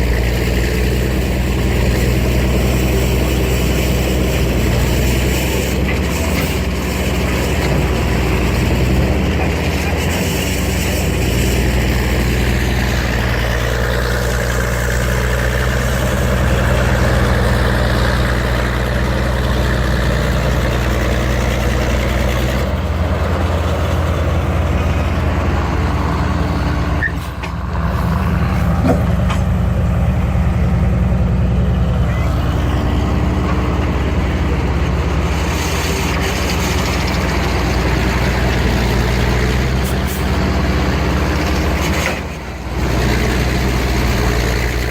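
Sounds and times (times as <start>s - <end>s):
heavy machinery engine running: 0.0s - 44.9s.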